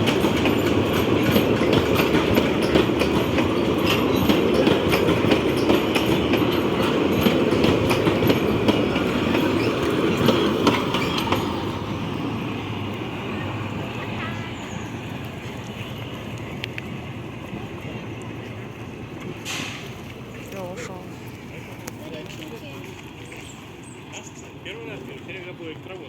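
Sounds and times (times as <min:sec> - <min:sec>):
train rumble: 0:00.0 - 0:26.0
wheels clicking over rail joints: 0:00.0 - 0:26.0.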